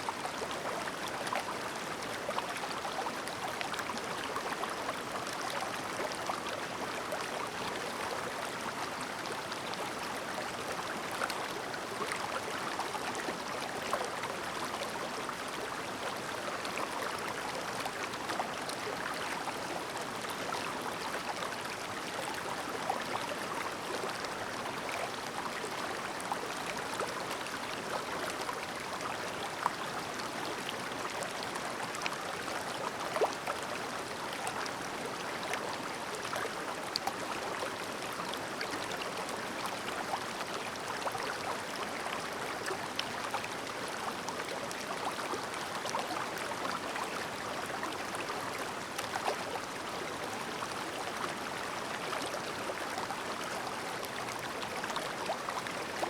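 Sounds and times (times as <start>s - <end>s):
stream babbling over rocks: 0.1s - 56.0s.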